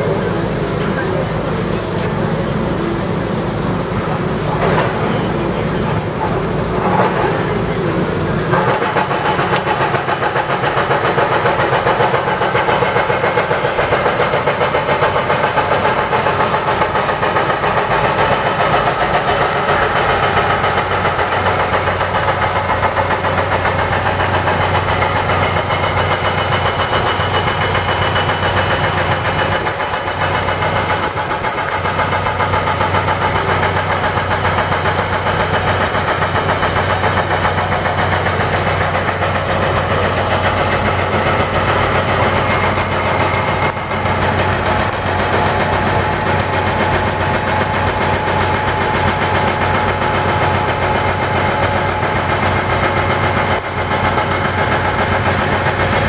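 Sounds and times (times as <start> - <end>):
diesel engine running loudly: 0.0 - 56.0.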